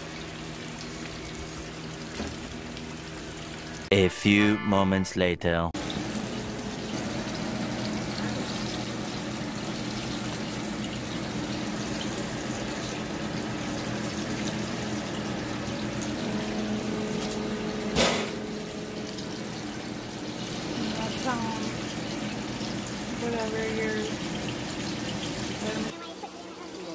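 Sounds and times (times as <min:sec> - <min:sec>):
oil bubbling and sizzling: 0:00.0 - 0:03.9, 0:05.8 - 0:26.9.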